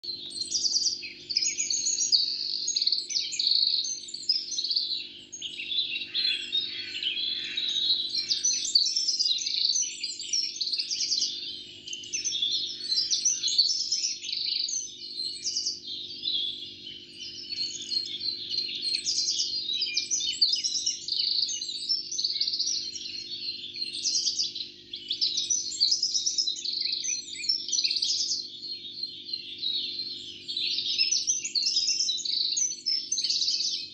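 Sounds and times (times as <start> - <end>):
small birds chirping and trilling: 0.0 - 33.9.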